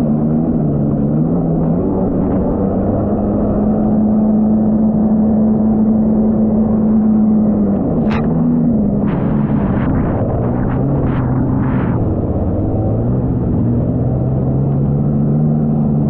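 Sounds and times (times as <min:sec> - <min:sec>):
jet ski engine running: 0:00.0 - 0:16.0.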